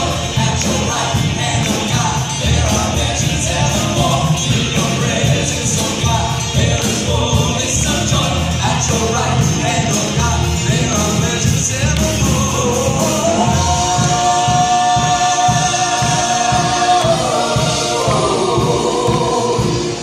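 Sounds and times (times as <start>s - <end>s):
gospel band playing: 0.0s - 20.0s
vocalists singing: 0.0s - 20.0s.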